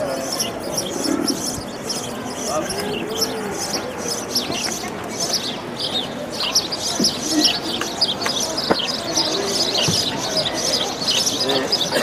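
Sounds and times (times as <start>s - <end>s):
murmur of crowd voices: 0.0s - 12.0s
small birds chirping: 0.0s - 12.0s.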